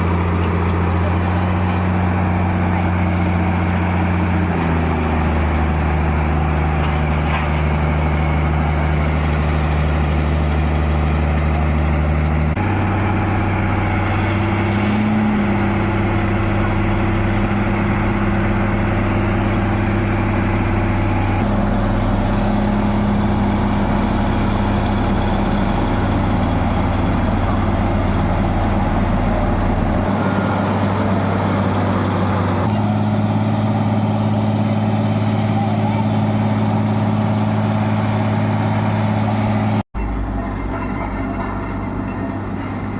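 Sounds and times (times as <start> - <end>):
heavy vehicle engine humming: 0.0 - 42.9.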